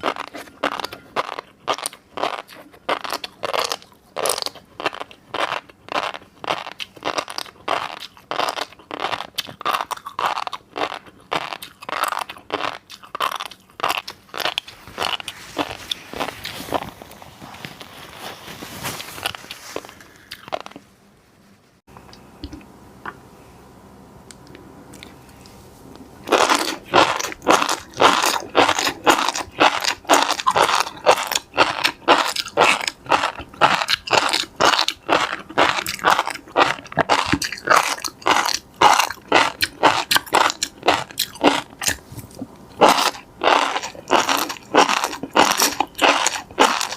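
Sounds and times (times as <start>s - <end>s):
crunching and chewing: 0.0s - 20.8s, 24.9s - 46.9s.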